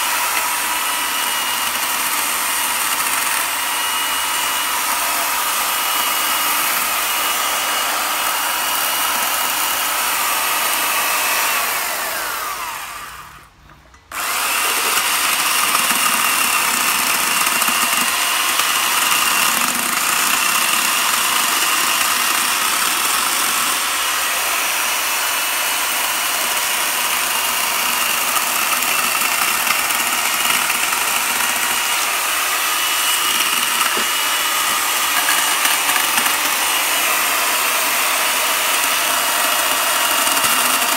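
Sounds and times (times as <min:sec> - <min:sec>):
chainsaw running with high whine: 0:00.0 - 0:13.5, 0:14.1 - 0:40.9.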